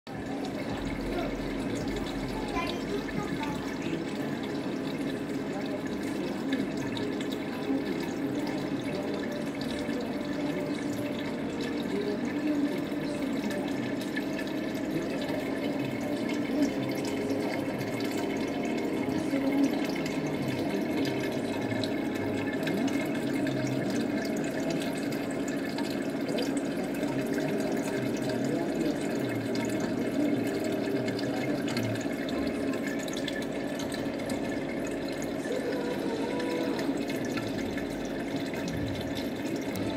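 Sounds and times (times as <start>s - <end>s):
trickling water: 0.1s - 39.9s.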